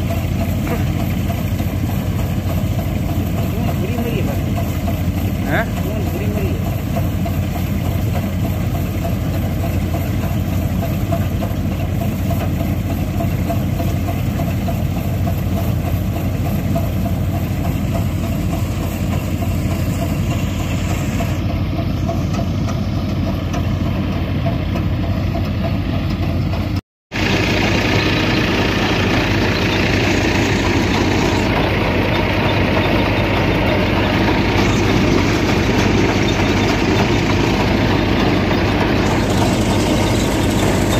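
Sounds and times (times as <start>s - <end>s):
thresher churning: 0.0s - 40.9s
tractor engine drone: 0.0s - 40.9s.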